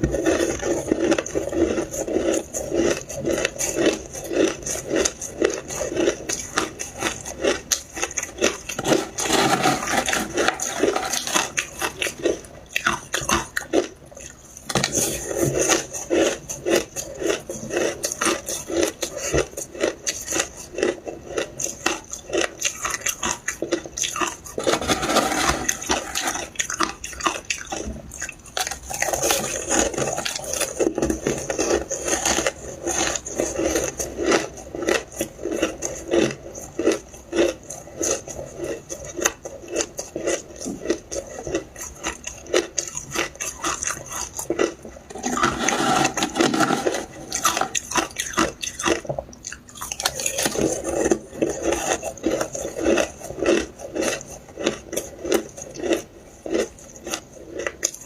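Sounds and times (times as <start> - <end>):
crunching and chewing ice: 0.0 - 58.0.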